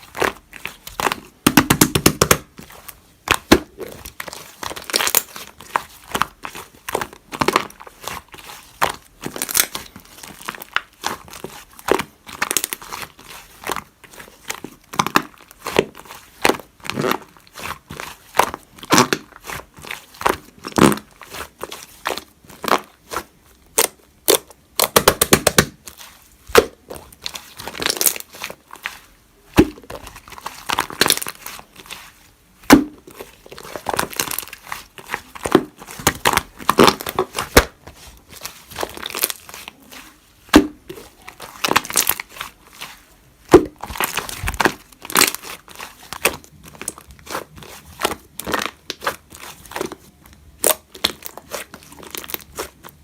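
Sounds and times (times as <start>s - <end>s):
slime squishing and popping: 0.0s - 53.0s.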